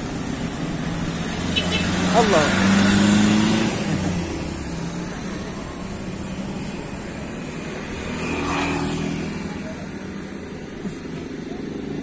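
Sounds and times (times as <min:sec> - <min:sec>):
vehicle engine approaching: 0:00.0 - 0:12.0.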